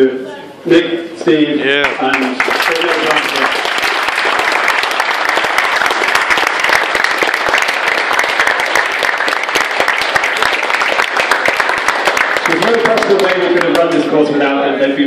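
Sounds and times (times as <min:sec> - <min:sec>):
people clapping: 0:01.7 - 0:14.2.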